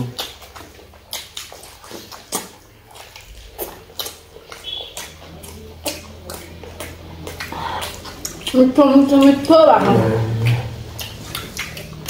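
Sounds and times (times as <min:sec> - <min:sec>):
people chewing with mouth smacks: 0:00.0 - 0:12.0.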